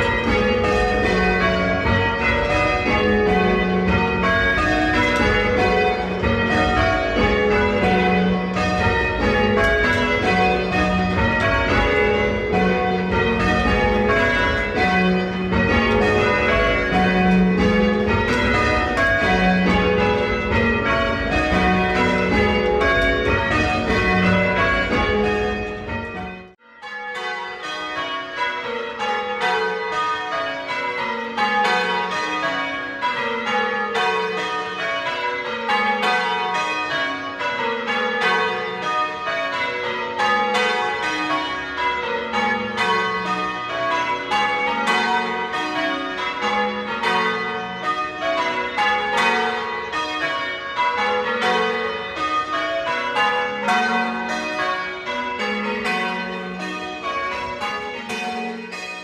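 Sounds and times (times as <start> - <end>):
church bells ringing rounds: 0.0 - 59.0.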